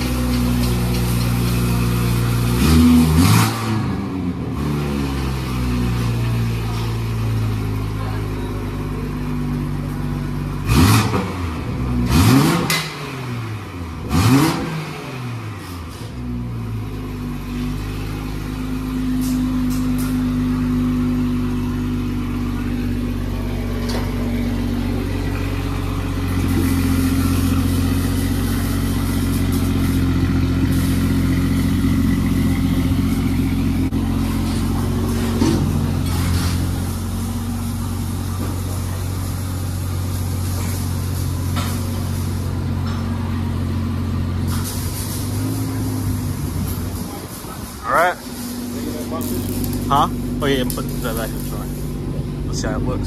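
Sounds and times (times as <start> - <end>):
car engine revving and idling: 0.0 - 53.0.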